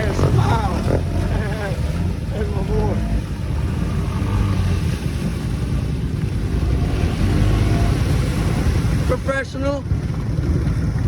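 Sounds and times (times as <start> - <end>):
vehicle engine running: 0.0 - 11.0
wind buffeting microphone: 0.0 - 11.0.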